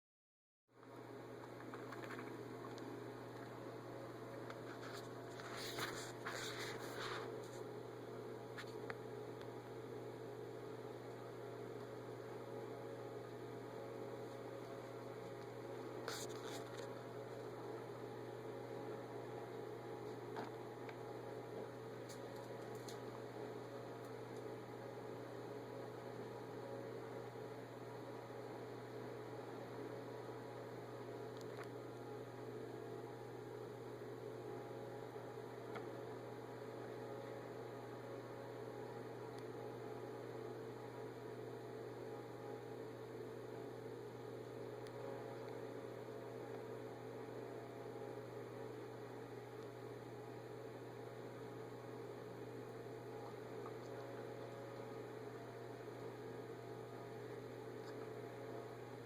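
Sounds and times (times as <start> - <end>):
low electrical hum: 0.7 - 59.0.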